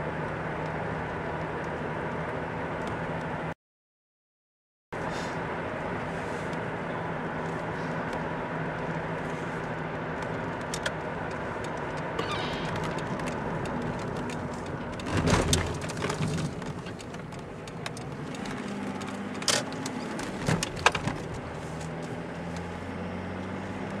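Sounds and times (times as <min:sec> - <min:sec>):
car engine and road noise: 0:00.0 - 0:03.6, 0:05.0 - 0:24.0.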